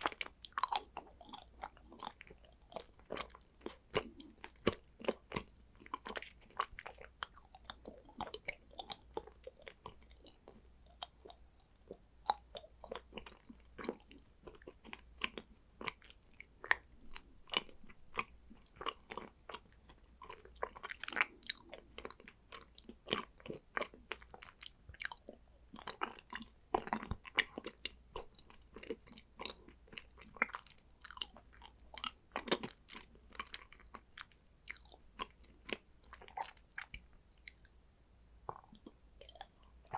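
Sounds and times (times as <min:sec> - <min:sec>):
chewing crisp chocolate: 0:00.0 - 0:37.8, 0:38.5 - 0:39.9.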